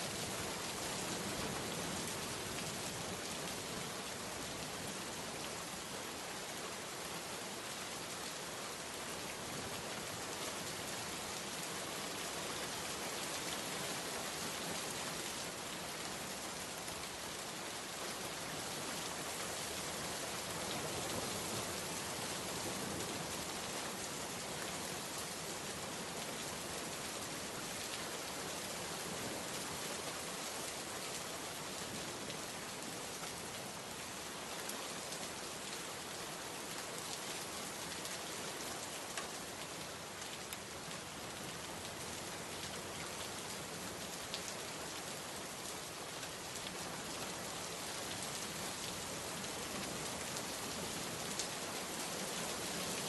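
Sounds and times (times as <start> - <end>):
heavy rain falling: 0.1 - 53.0.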